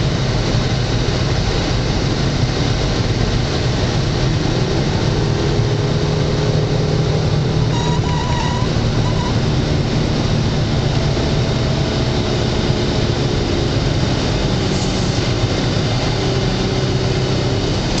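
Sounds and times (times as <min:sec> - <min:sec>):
car engine and road noise hum: 0:00.0 - 0:18.0.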